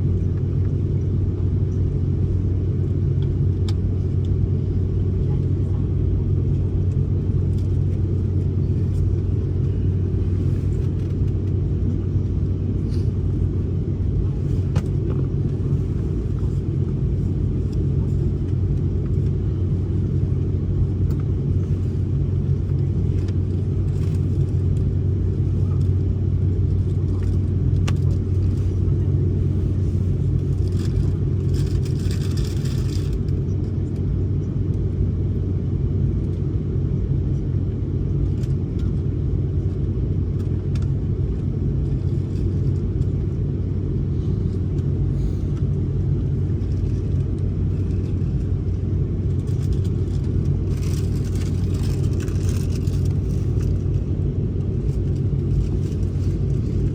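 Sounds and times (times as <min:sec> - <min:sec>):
airliner cabin rumble and hum: 0:00.0 - 0:56.9.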